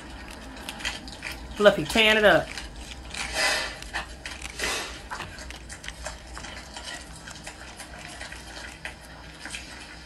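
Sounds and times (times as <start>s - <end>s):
dog eating off glass: 0.0s - 10.0s.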